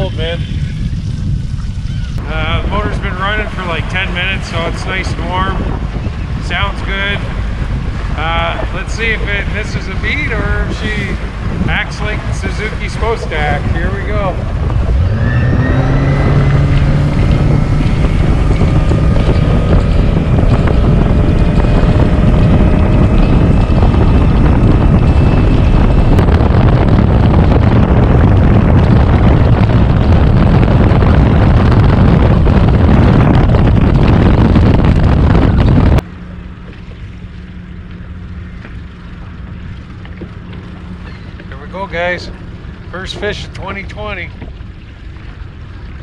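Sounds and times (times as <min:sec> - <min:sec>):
outboard motor accelerating: 0:00.0 - 0:46.0
steady low hum: 0:00.0 - 0:46.0
wind and water noise: 0:00.0 - 0:46.0.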